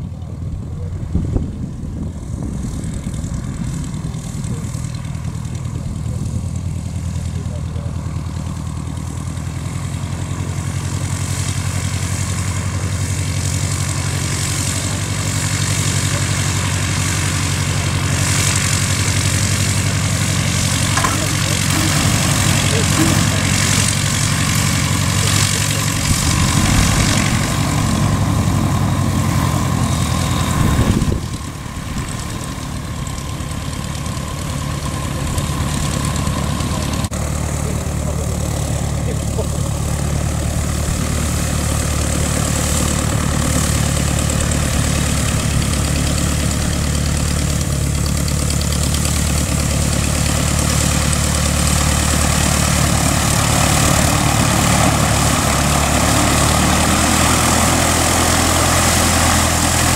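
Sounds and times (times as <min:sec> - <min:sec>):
light aircraft engine running: 0:00.0 - 0:59.9.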